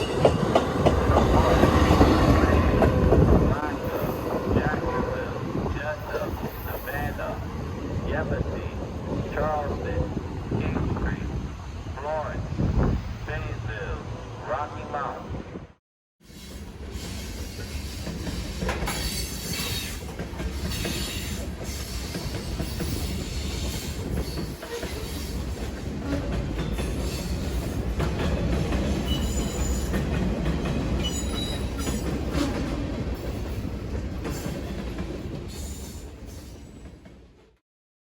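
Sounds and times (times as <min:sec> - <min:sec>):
train rumbling by: 0:00.0 - 0:37.6.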